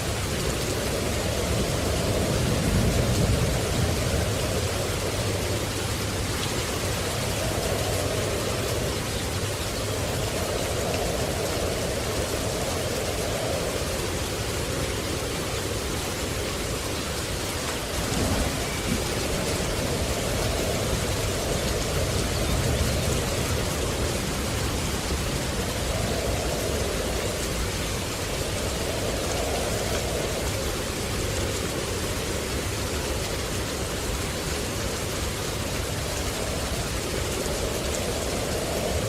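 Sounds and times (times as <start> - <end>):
falling water rushing: 0.0 - 39.0.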